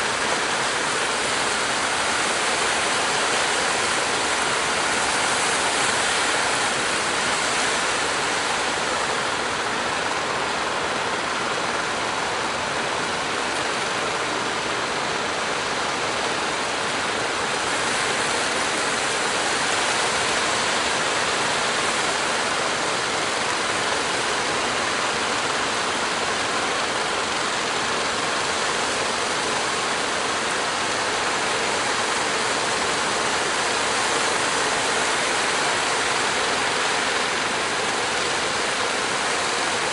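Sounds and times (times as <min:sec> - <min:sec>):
breaking surf and churning water: 0:00.0 - 0:39.9.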